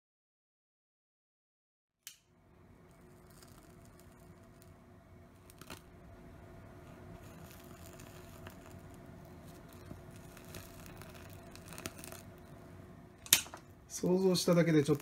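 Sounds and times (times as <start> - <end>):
light crackling: 2.0 - 15.0
torch lighter flame hissing: 2.6 - 15.0.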